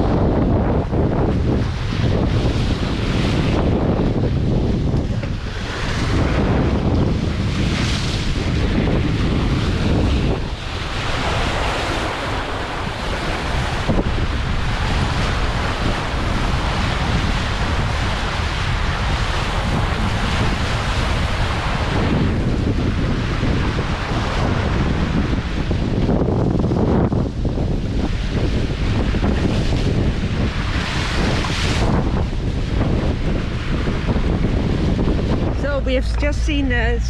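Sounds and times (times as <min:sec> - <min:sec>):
water rushing along hull: 0:00.0 - 0:37.0
wind buffeting microphone: 0:00.0 - 0:37.0.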